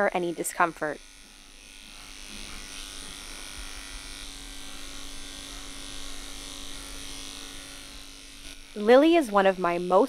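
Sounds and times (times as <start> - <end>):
electric clippers humming: 0.0 - 10.0.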